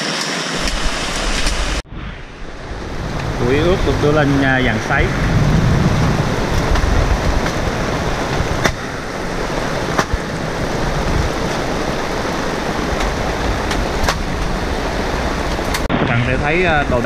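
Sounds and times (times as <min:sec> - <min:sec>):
fast-running stream: 0:00.0 - 0:17.0
heavy rain: 0:00.0 - 0:17.0.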